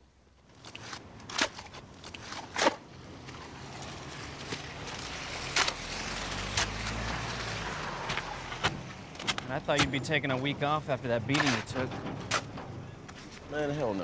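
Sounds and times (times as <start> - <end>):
tyres crunching over gravelly mud: 0.5 - 14.0.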